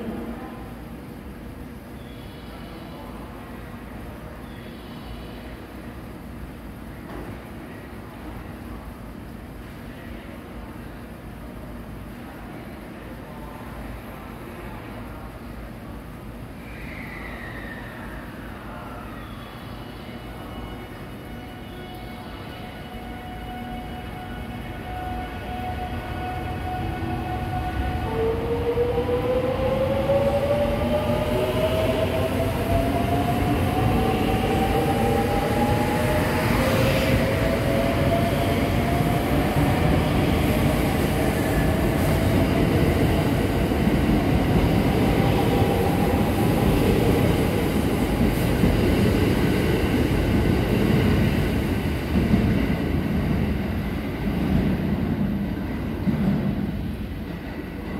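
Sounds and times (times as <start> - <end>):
rumbling wheel and rail noise: 0.0 - 57.9.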